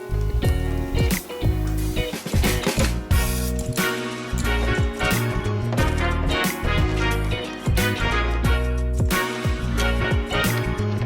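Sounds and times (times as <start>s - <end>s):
upbeat funk music with drums: 0.0s - 11.0s.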